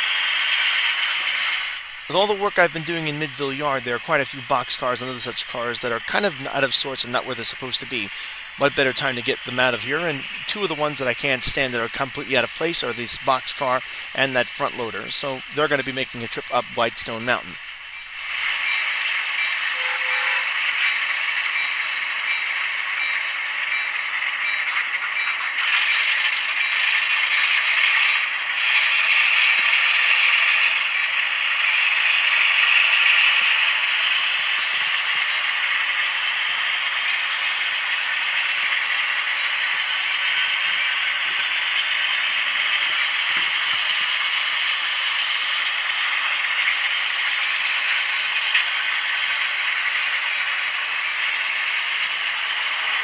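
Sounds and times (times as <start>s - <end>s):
diesel engine sound from small speaker: 0.0s - 53.0s
model train rattling on track: 0.0s - 53.0s.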